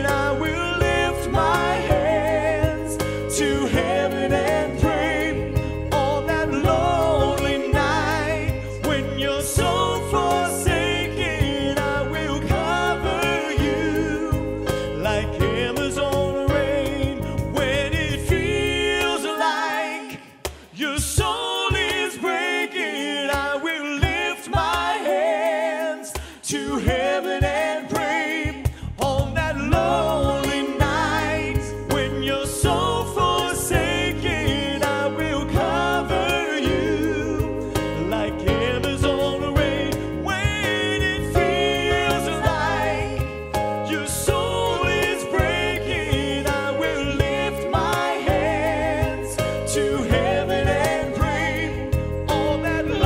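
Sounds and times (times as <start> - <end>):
bass line: 0.0 - 19.7, 26.9 - 53.0
live band playing slow song: 0.0 - 21.0, 26.2 - 53.0
backing singers: 0.0 - 53.0
man singing with vibrato: 0.0 - 53.0.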